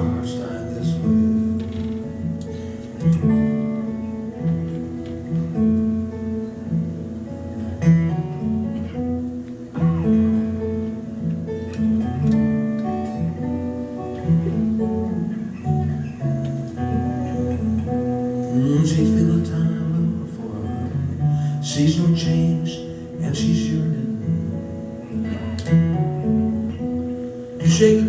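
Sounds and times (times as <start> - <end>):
acoustic guitar instrumental: 0.0 - 28.0.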